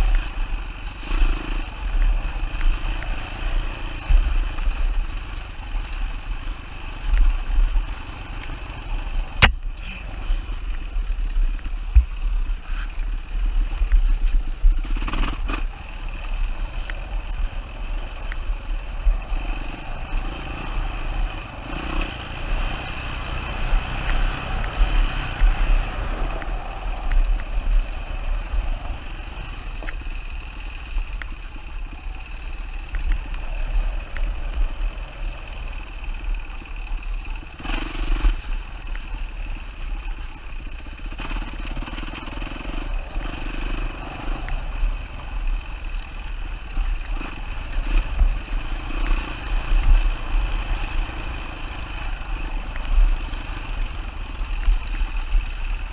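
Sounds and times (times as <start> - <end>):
dirt bike engine revving: 0.0 - 10.6, 14.7 - 29.8, 33.6 - 38.8, 40.6 - 55.8.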